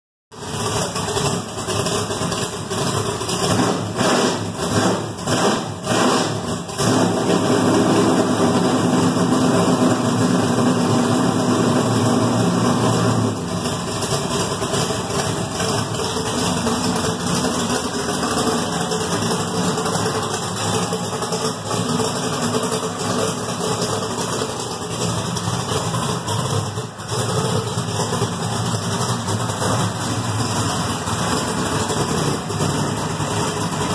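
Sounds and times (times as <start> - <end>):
race car engine revving and idling: 0.3 - 33.9.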